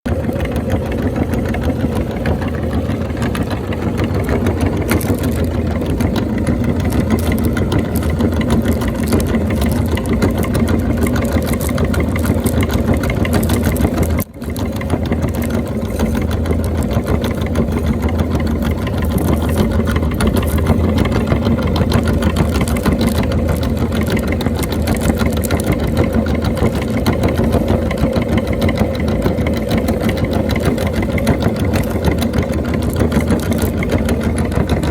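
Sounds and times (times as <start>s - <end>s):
electric grinder crushing snacks: 3.3s - 34.9s.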